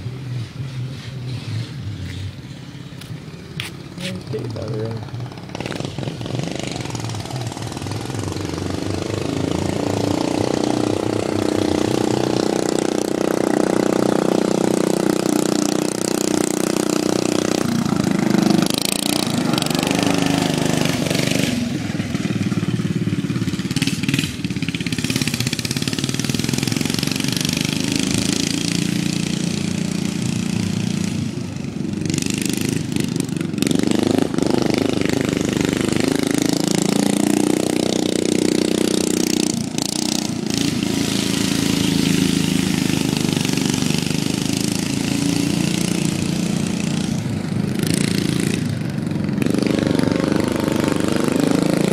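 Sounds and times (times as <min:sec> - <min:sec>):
lawnmower engine running hard: 0:00.0 - 0:51.9.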